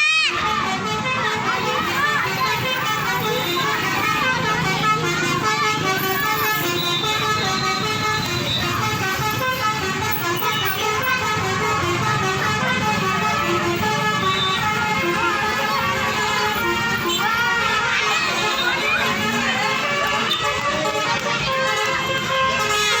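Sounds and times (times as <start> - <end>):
bus musical horns playing: 0.0 - 23.0.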